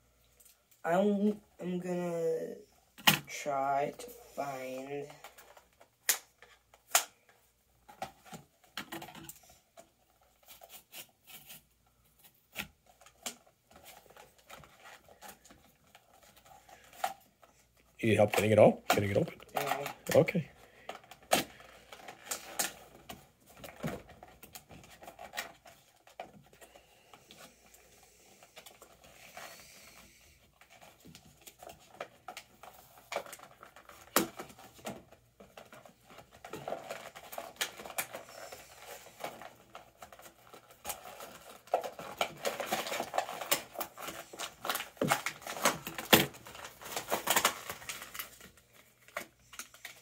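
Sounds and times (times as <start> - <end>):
toy packaging being pried open: 4.4 - 17.5, 18.3 - 27.7, 28.4 - 50.0.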